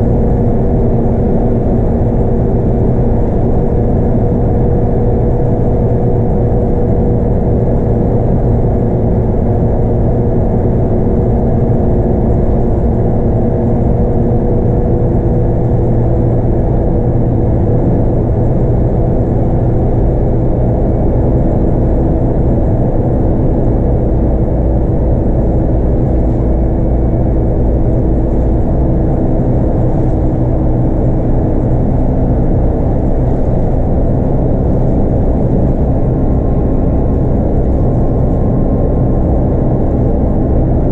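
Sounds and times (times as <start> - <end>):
bus diesel engine running: 0.0 - 40.9
road rumble: 0.0 - 40.9.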